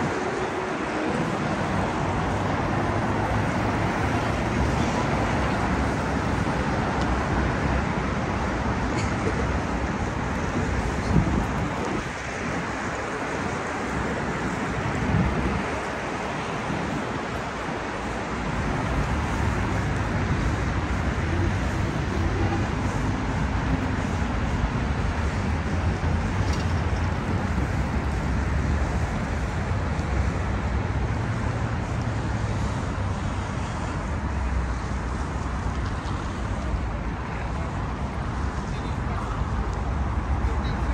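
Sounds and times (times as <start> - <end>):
city road traffic rumble: 0.0 - 40.9.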